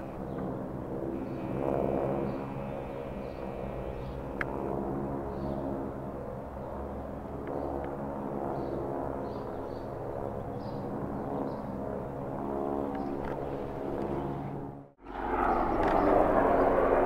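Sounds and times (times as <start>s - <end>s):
propeller planes droning overhead: 0.0s - 17.0s.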